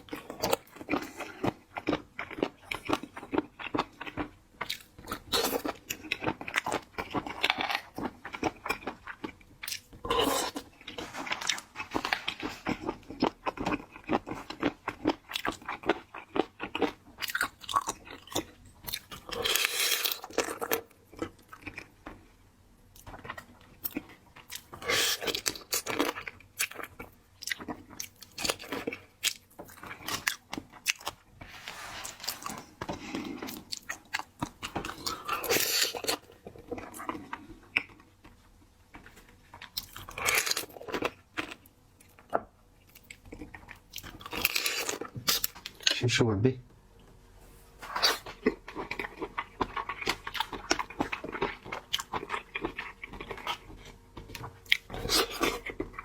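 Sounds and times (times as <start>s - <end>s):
close-miked crunching and chewing: 0.0s - 46.2s, 47.6s - 56.0s.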